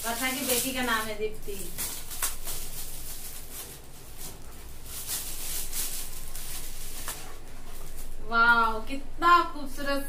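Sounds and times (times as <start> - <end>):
foil and plastic rustling: 0.0 - 8.8.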